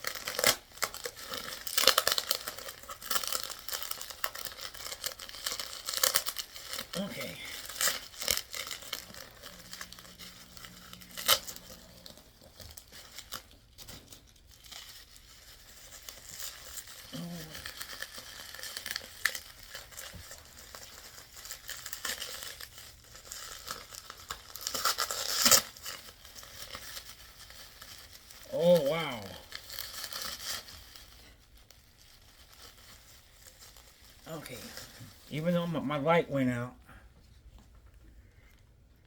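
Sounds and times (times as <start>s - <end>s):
bubble wrap crinkling and tearing: 0.0s - 36.4s.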